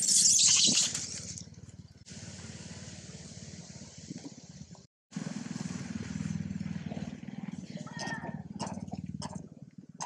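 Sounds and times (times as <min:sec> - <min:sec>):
engine running with low pulsing: 0:00.4 - 0:10.0.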